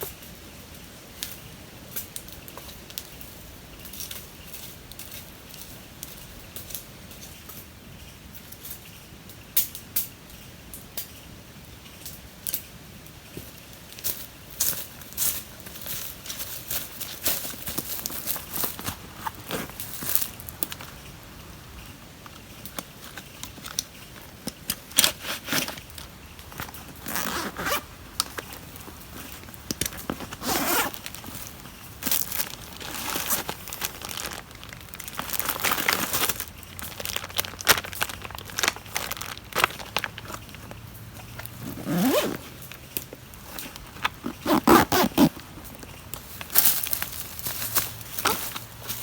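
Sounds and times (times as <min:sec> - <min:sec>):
rustling and crinkling: 0:01.1 - 0:07.7, 0:11.9 - 0:49.0.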